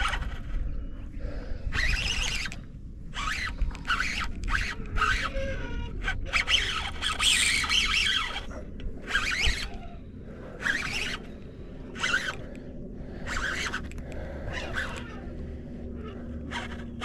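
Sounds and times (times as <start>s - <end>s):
fishing reel drag buzzing: 1.7s - 9.8s, 10.4s - 17.0s.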